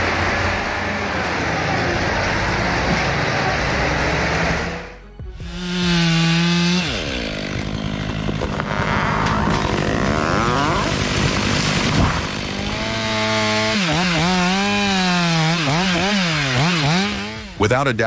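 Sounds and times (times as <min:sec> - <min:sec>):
chainsaw running at high revs: 0:00.0 - 0:17.6.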